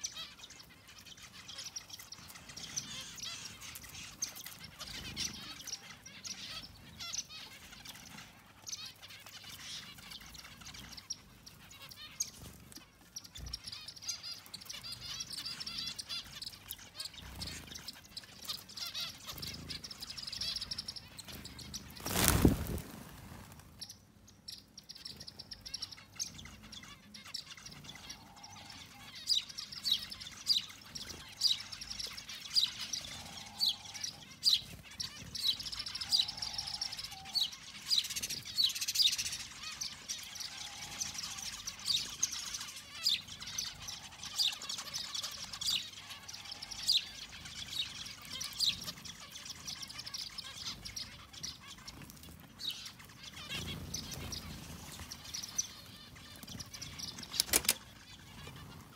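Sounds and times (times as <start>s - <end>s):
finches chirping: 0.0s - 58.9s.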